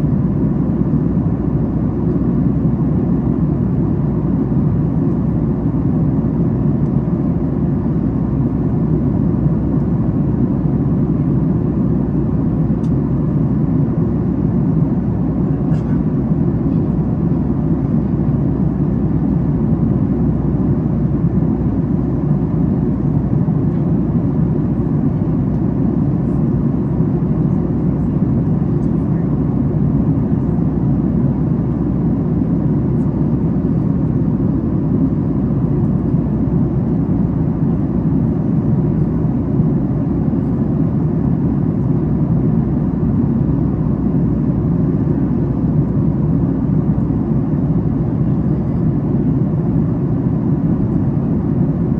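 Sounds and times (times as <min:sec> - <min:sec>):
airplane cabin roar: 0:00.0 - 0:51.9.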